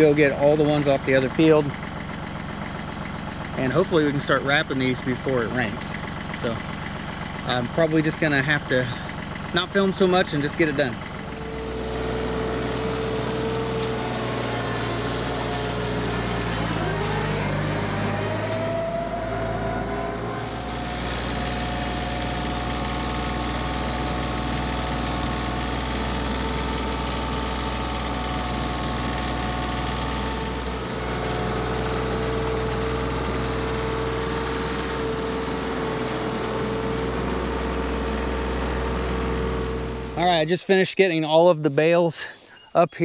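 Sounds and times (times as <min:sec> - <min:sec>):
tractor diesel engine running: 0:00.0 - 0:42.6.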